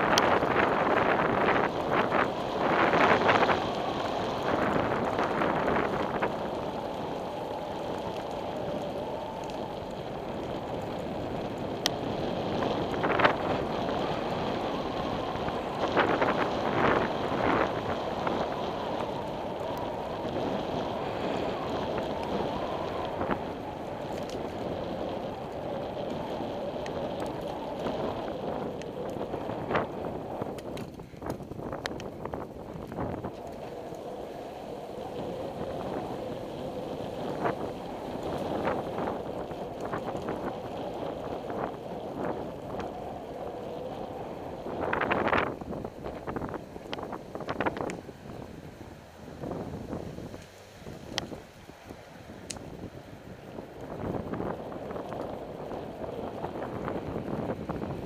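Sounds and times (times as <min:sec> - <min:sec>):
bicycle tyre rumble: 0:00.0 - 0:58.0
wind noise on microphone: 0:00.0 - 0:58.0.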